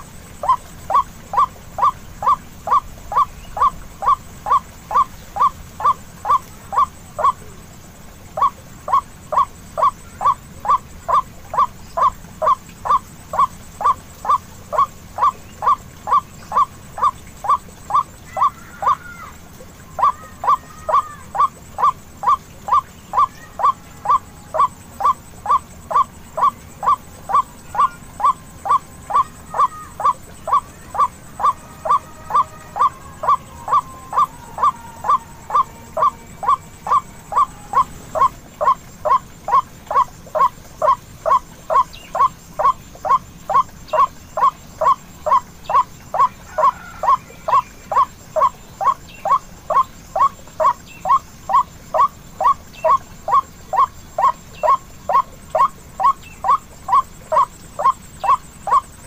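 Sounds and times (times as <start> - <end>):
fainter higher bird calls: 0.0 - 59.0
waterhen calls: 0.0 - 59.0.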